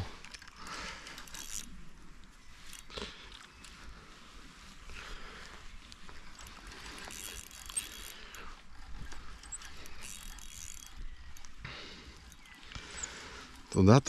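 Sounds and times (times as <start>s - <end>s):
fishing reel clicking: 0.2s - 4.0s, 4.9s - 14.0s.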